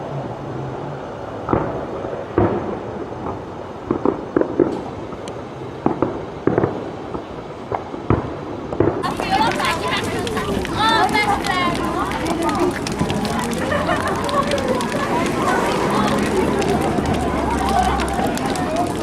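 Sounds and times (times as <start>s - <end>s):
distant fireworks crackle: 0.0s - 19.0s
fireworks bangs: 1.4s - 19.0s.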